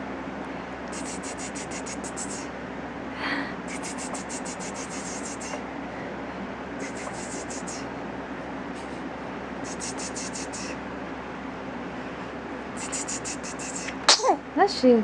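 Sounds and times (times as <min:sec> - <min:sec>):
cradle swing motor hum: 0:00.0 - 0:15.0.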